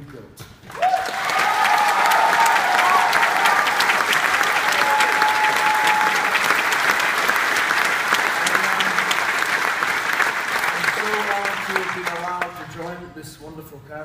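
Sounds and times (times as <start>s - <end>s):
audience applauding: 0.7s - 13.0s.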